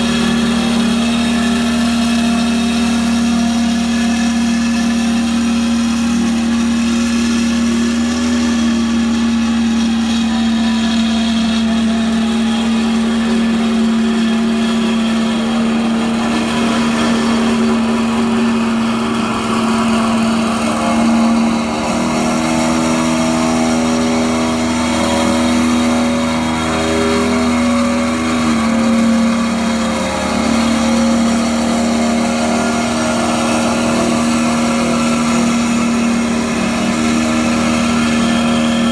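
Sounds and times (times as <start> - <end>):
roller engine running steadily: 0.0 - 38.9.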